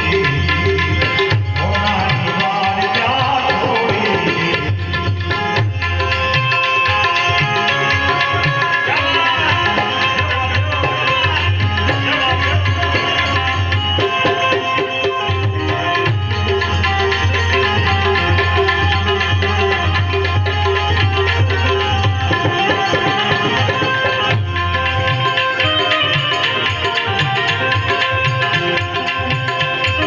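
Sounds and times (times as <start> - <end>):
tabla and drums beat: 0.0 - 30.0.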